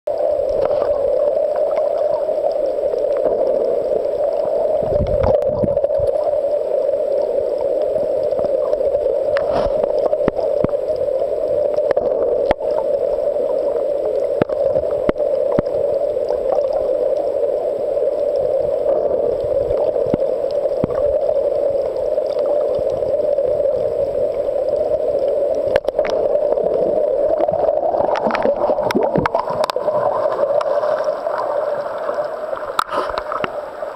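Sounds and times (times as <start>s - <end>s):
faint underwater clicks: 0.1s - 33.9s
underwater hum: 0.1s - 33.9s.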